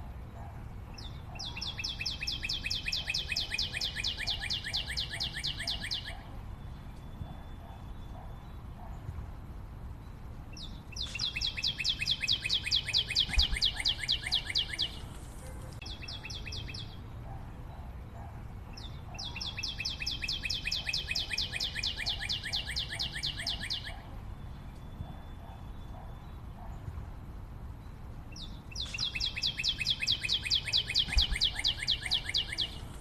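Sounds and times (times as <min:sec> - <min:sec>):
bird singing fast trill: 0:01.0 - 0:08.7, 0:10.0 - 0:15.1, 0:15.8 - 0:17.1, 0:18.8 - 0:26.5, 0:27.8 - 0:33.0.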